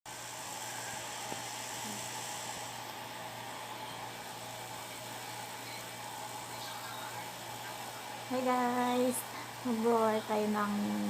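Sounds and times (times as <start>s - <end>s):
electric fan whirring: 0.1s - 11.0s.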